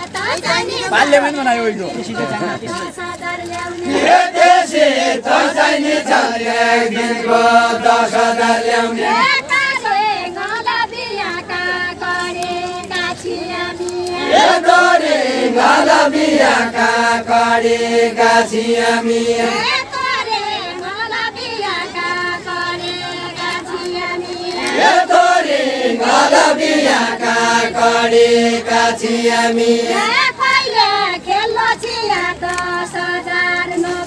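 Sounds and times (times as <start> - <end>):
group singing folk song: 0.0 - 34.0.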